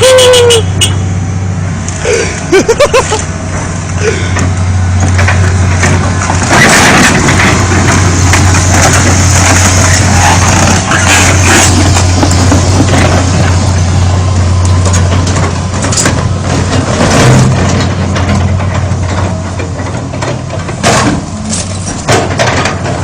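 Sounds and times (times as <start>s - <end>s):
excavator diesel engine running: 0.0s - 23.0s
metal crunching: 1.8s - 23.0s.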